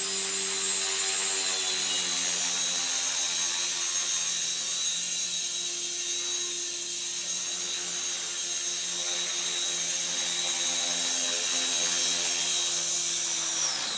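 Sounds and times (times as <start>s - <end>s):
rc helicopter motor whine: 0.0s - 13.9s.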